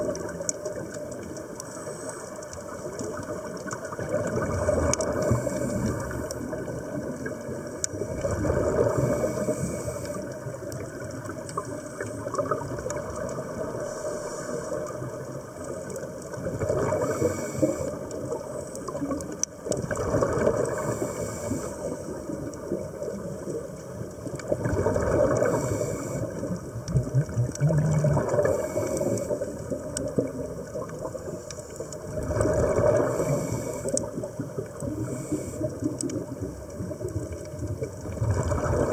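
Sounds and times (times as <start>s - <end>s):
exhaled bubbles gurgling: 0.0s - 38.9s
underwater water noise: 0.0s - 38.9s.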